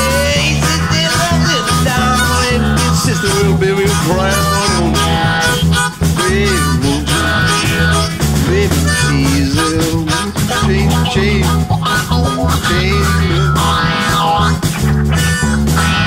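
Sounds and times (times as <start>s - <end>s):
blues harmonica: 0.0s - 16.0s
strummed acoustic guitar: 0.0s - 16.0s.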